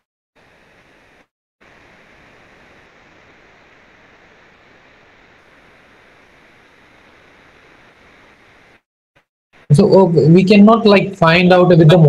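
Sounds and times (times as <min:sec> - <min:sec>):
microphone line hiss: 0:00.4 - 0:08.9, 0:09.6 - 0:12.0.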